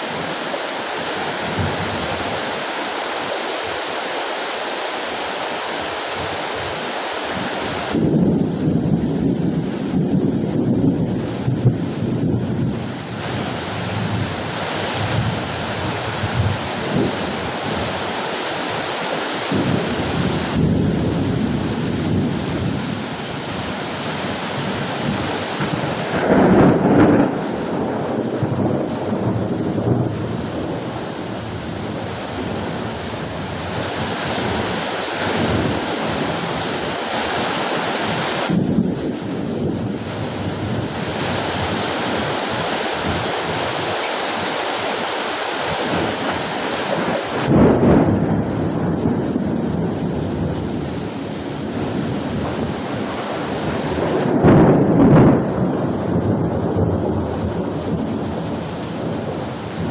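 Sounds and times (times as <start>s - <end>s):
wind buffeting microphone: 0.0s - 3.8s, 5.6s - 59.9s
heavy rain: 0.0s - 59.9s
thunder rumble: 1.2s - 2.5s, 7.9s - 37.2s, 38.4s - 44.5s, 45.7s - 59.9s.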